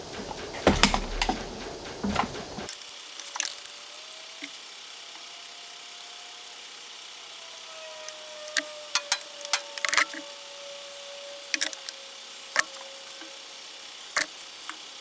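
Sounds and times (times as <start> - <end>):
sharp clicks and clacks: 0.0 - 5.4, 8.0 - 15.0
faint steady hum: 0.0 - 15.0.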